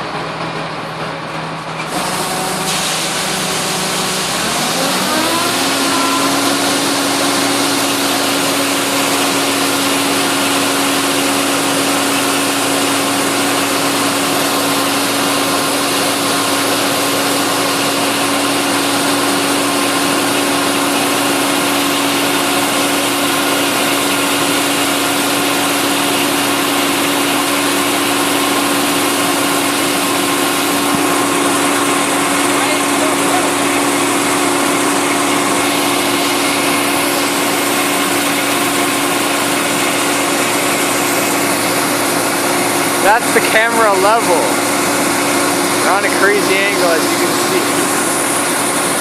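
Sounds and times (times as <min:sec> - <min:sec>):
combine harvester running: 0:00.0 - 0:49.0.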